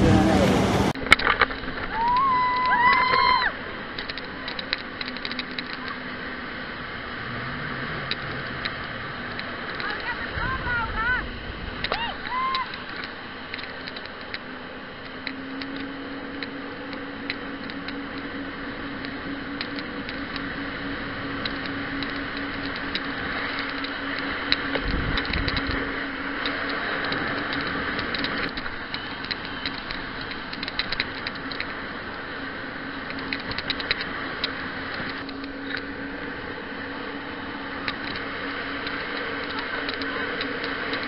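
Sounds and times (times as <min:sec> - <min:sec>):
small boat engine humming: 0:00.0 - 0:41.0.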